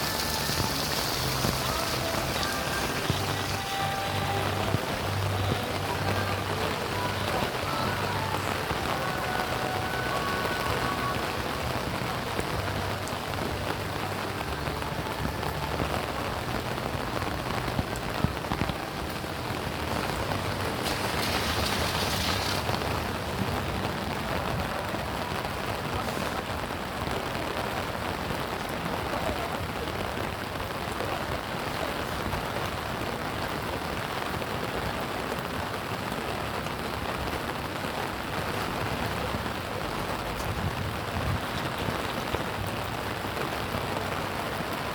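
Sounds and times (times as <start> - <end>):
rain pattering on surfaces: 0.0 - 44.9.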